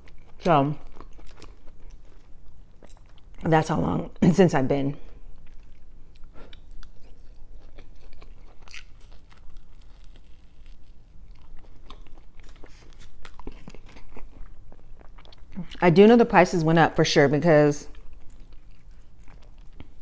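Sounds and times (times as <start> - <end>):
person chewing crunchy food: 0.0 - 3.5, 5.0 - 15.8, 17.9 - 20.0.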